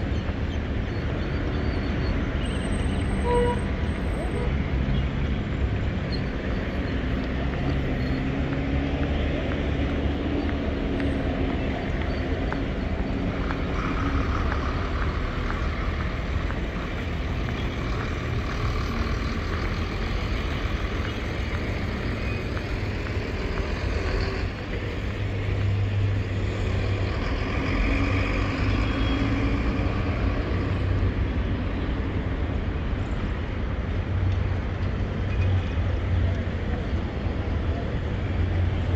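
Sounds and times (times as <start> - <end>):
vehicle engines passing: 0.0 - 38.9.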